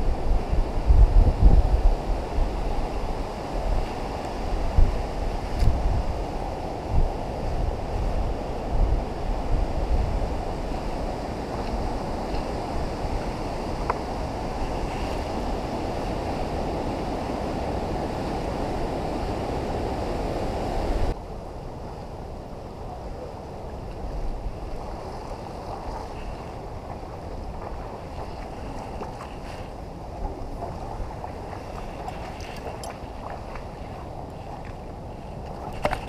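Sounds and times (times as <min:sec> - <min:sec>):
creek water rushing: 0:00.0 - 0:21.8, 0:22.5 - 0:36.0
wind buffeting microphone: 0:00.0 - 0:36.0.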